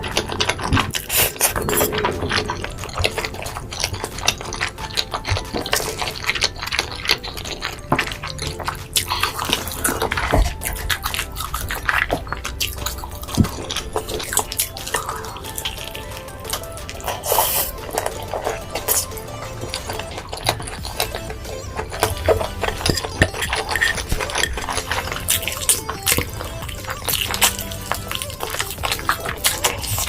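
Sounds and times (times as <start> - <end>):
close chewing and mouth sounds: 0.0 - 30.0.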